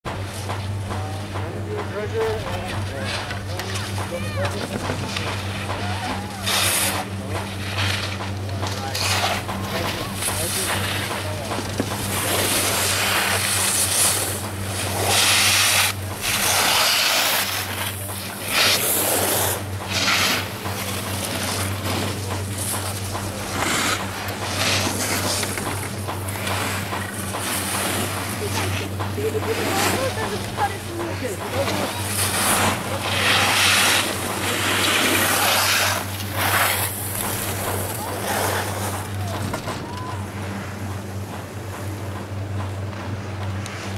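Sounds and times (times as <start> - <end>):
low hum: 0.2 - 43.9.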